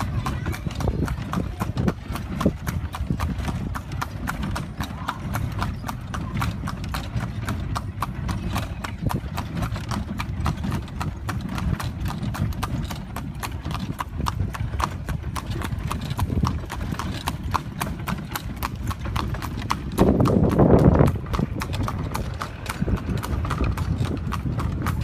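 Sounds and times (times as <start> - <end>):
hooves clip-clopping on pavement: 0.0 - 25.0
steady low rumble: 0.0 - 25.0.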